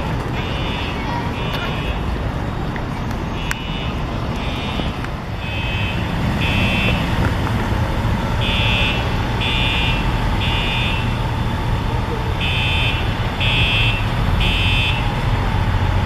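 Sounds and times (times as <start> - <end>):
fire alarm horn beeping: 0.0 - 2.2, 3.3 - 7.2, 8.1 - 15.8
low engine rumble: 0.0 - 16.0.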